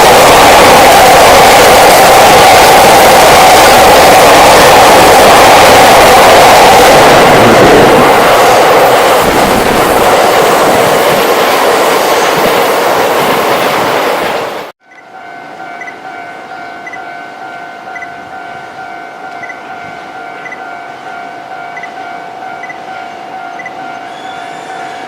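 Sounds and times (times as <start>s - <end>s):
train wheels on rails: 0.0s - 16.2s, 16.8s - 25.0s.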